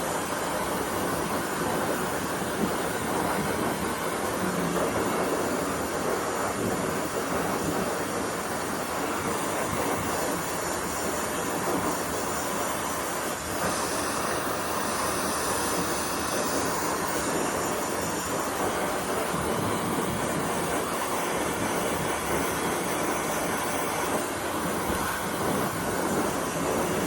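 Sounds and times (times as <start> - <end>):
hair dryer blowing: 0.0 - 27.0.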